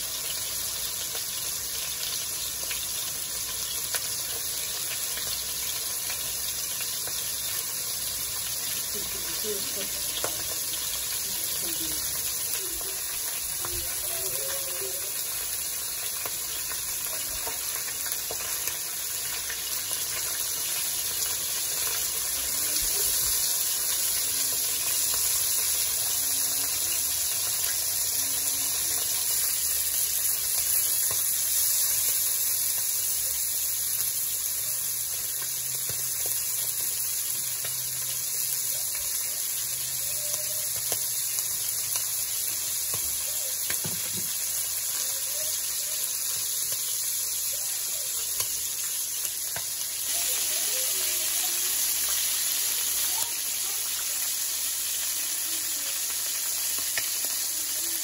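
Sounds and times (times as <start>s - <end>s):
kidneys sizzling in hot oil: 0.0s - 58.0s.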